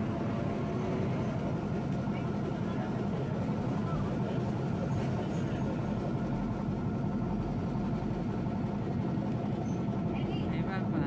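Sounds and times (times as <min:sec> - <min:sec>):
tram motor and wheels rumbling: 0:00.0 - 0:11.0.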